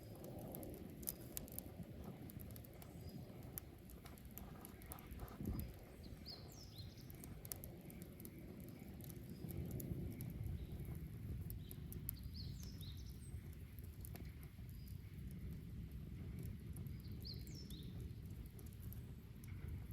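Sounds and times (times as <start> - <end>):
bonfire crackling and popping: 0.0 - 19.9
low fire rumble: 0.0 - 19.9.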